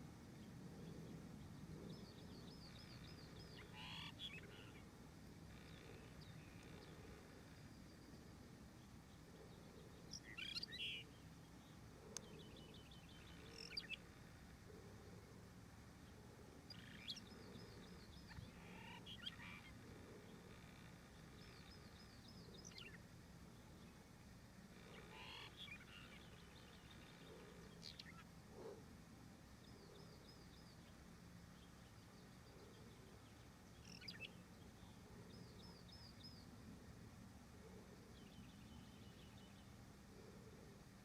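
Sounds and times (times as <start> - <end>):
bird chirping faintly: 0.0 - 41.0.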